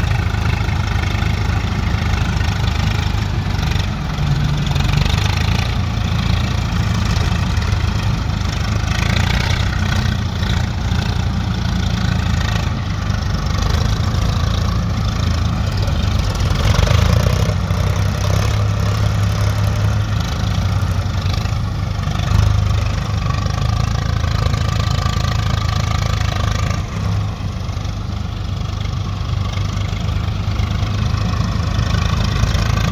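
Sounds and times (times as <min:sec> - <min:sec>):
tractor diesel engines throbbing: 0:00.0 - 0:32.9.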